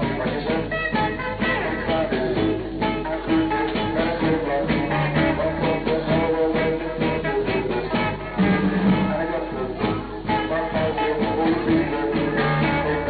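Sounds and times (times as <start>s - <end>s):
beat band playing live: 0.0s - 13.0s
electric guitar: 0.0s - 13.0s.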